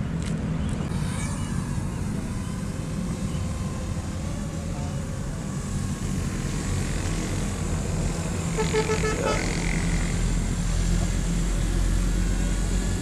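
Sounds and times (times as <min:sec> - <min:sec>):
small drone propellers whining: 0:00.9 - 0:13.0.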